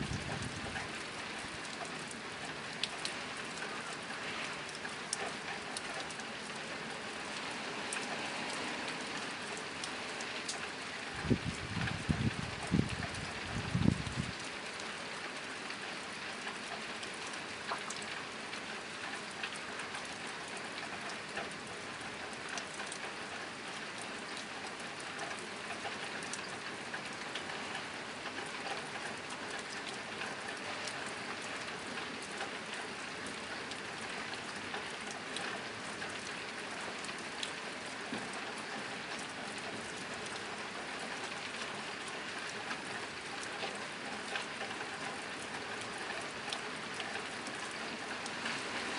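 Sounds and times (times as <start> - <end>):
rain on a tin roof: 0.0 - 48.9.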